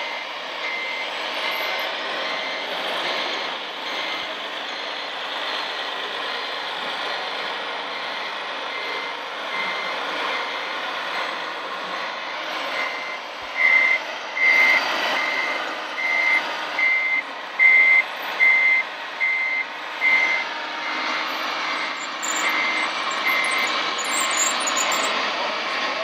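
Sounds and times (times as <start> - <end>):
reversing beeper: 0.0 - 5.1, 7.4 - 26.0
truck engine hum: 0.0 - 26.0.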